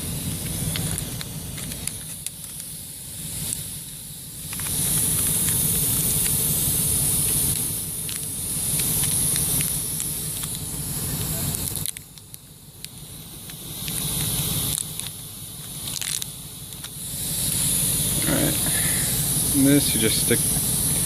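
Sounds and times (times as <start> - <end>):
air hissing out of tire: 0.0 - 21.0.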